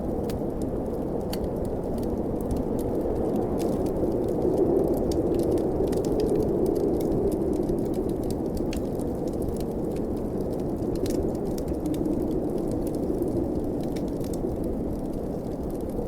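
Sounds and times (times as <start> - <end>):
blizzard wind rumbling: 0.0 - 16.0.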